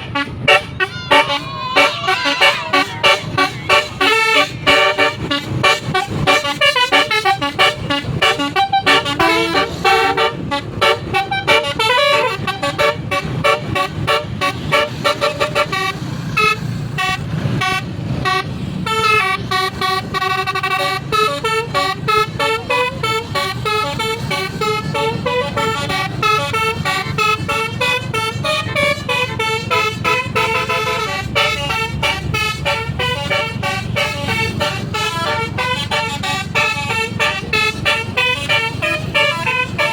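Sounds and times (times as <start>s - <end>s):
bus horn tune: 0.0s - 39.9s.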